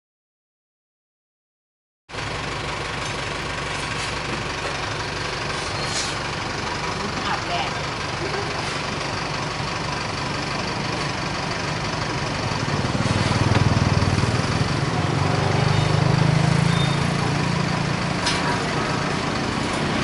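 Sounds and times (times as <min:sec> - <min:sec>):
outdoor street noise: 0:02.1 - 0:20.0
vehicle engine running at low revs: 0:02.1 - 0:20.0.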